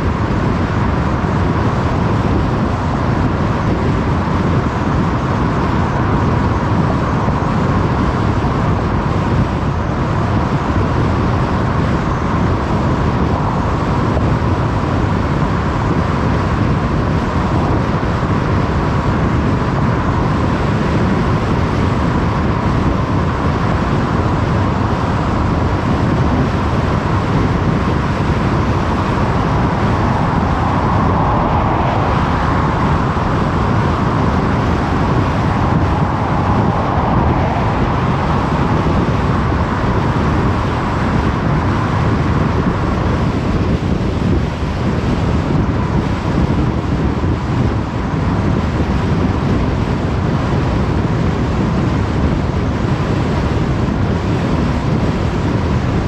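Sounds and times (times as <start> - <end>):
tyre and wind road noise: 0.0 - 56.0.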